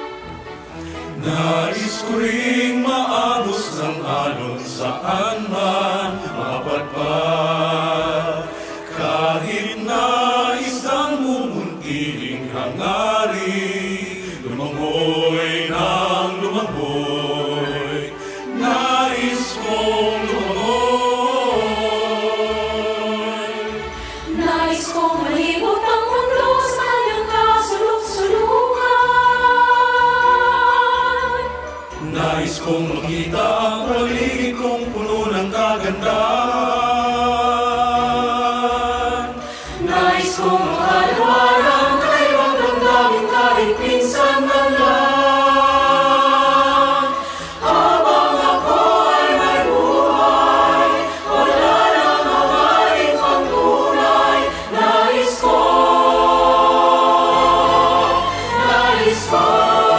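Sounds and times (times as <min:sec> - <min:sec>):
mixed choir singing in harmony: 0:00.0 - 0:59.9.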